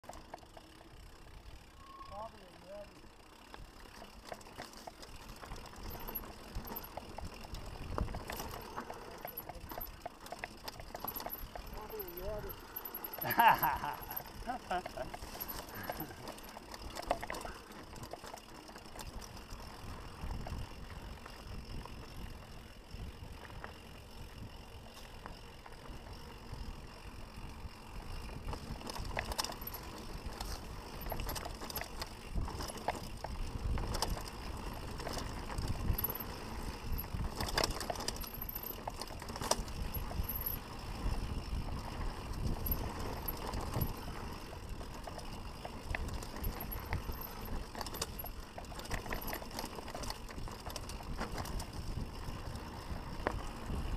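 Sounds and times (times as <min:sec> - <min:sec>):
bike clacking and rattling: 0:00.0 - 0:53.9
bike tyres rumbling on dirt: 0:00.0 - 0:53.9
wind: 0:00.0 - 0:53.9.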